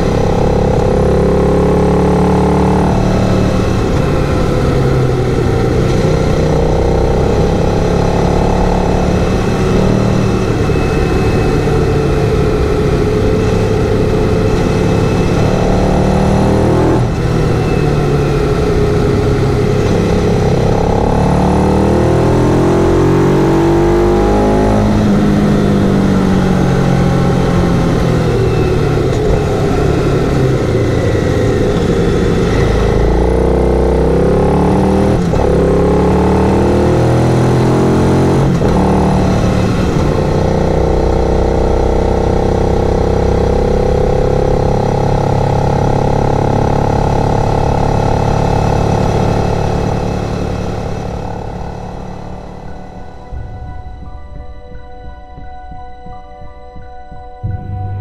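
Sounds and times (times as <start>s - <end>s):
motorcycle engine running: 0.0s - 54.4s.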